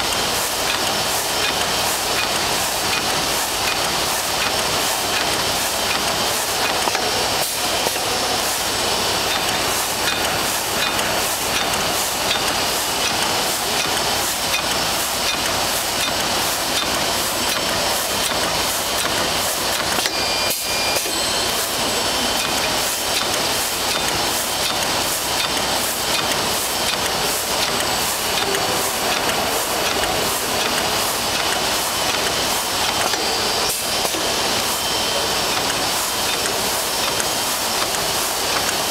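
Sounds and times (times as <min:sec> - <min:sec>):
machine whirring and hissing: 0:00.0 - 0:38.9
repeating machine clack: 0:00.0 - 0:38.9.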